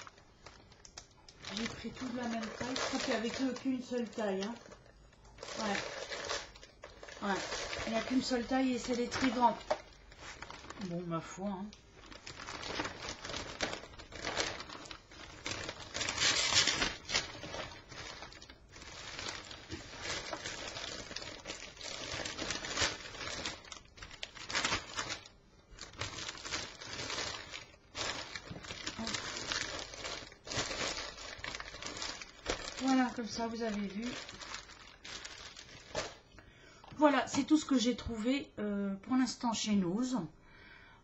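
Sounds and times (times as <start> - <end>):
plastic bag crinkling: 0.0 - 36.3.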